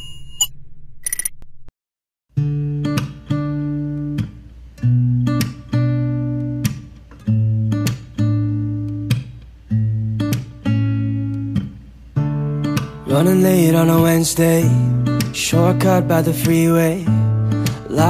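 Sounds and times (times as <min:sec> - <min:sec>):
acoustic guitar strumming chords: 0:02.3 - 0:18.0.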